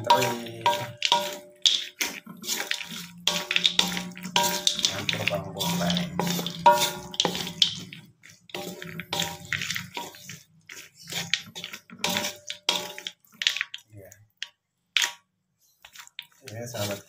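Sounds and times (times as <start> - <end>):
spatula scraping a wok: 0.0 - 13.8, 15.0 - 17.0.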